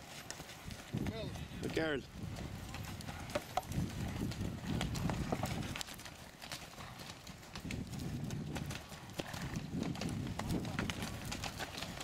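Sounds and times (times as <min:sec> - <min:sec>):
horse hooves thudding: 0:00.0 - 0:12.0.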